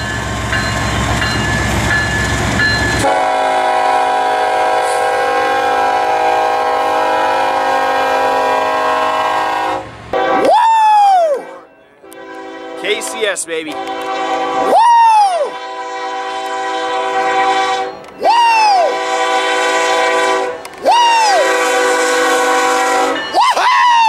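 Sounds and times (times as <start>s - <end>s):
train rumbling: 0.0s - 24.0s
locomotive air horn: 3.0s - 10.7s, 11.3s - 23.4s.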